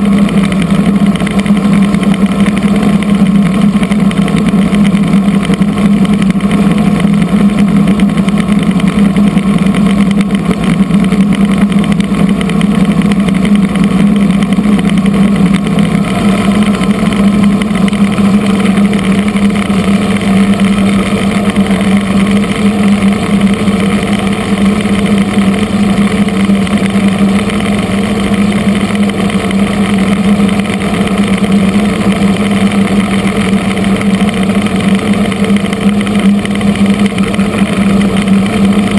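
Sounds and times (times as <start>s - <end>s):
helicopter engines droning: 0.0s - 38.9s.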